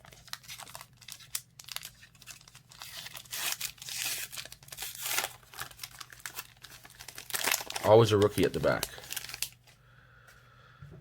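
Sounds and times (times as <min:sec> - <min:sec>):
wrapper tearing and crinkling: 0:00.0 - 0:09.7.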